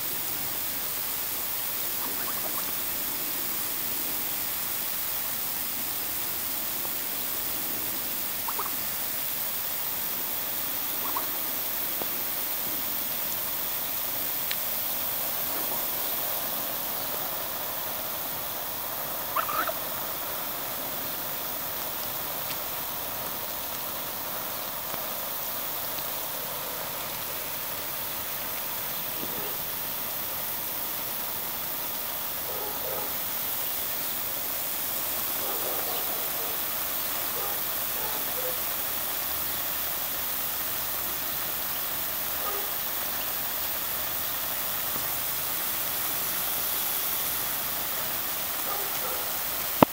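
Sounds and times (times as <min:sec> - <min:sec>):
water spraying from hose: 0:00.0 - 0:49.9.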